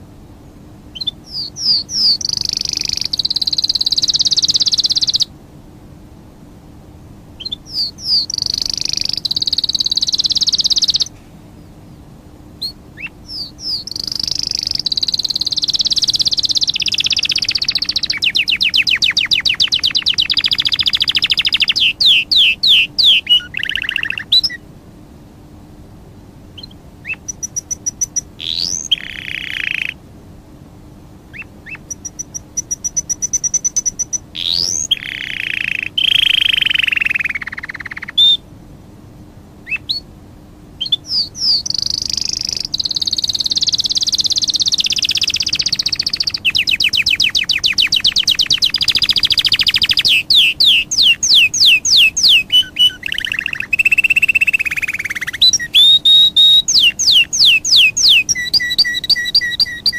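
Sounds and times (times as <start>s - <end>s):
songbirds singing: 0.0s - 30.1s, 30.8s - 38.6s, 39.4s - 59.9s
faint hum: 0.0s - 59.9s.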